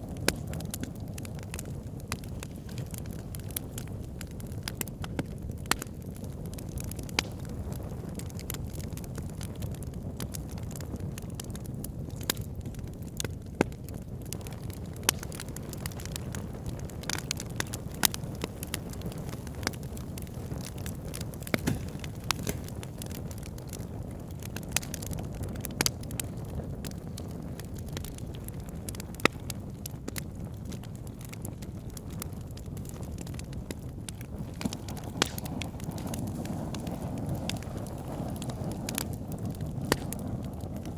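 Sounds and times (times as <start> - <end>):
fire flames rumbling: 0.0 - 40.9
wood fire crackling and popping: 0.0 - 40.9.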